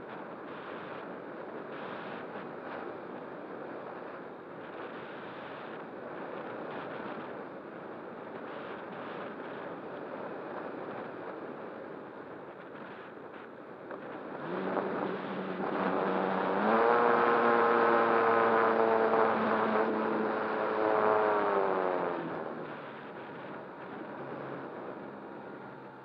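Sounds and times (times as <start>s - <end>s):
electric motor and propeller whine: 0.2s - 26.0s.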